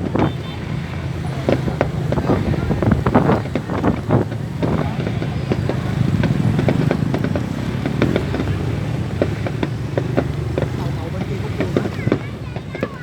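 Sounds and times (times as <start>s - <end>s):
crowd noise: 0.0s - 13.0s
fireworks popping: 0.0s - 13.0s
motorbike traffic rumble: 0.0s - 13.0s.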